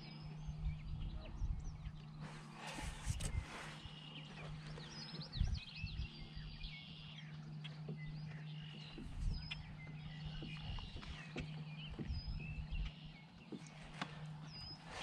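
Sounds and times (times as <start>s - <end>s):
birds chirping and whistling: 0.0s - 15.0s
steady low hum: 0.0s - 15.0s.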